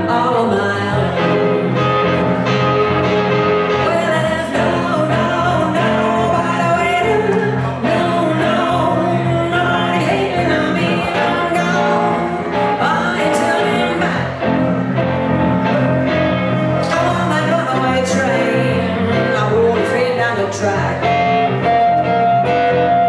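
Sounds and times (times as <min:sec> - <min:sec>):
electric guitar: 0:00.0 - 0:23.0
electric keyboard: 0:00.0 - 0:23.0.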